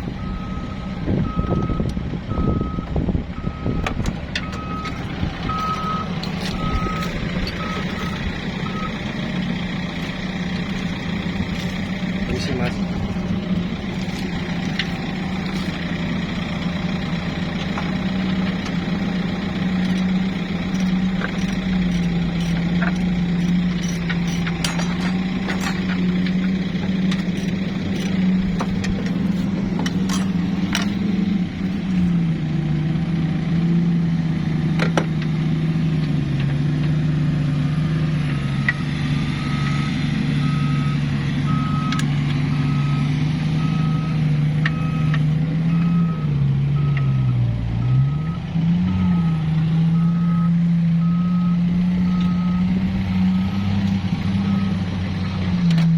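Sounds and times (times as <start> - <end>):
reversing alarm beeping: 0.0 - 32.1, 37.6 - 55.3
vehicle engine droning: 0.0 - 55.9.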